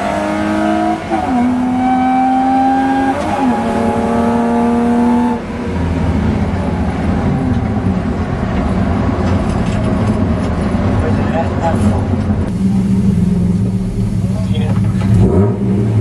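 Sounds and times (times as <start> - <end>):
rally car engine revving: 0.0 - 16.0
road noise: 0.0 - 16.0.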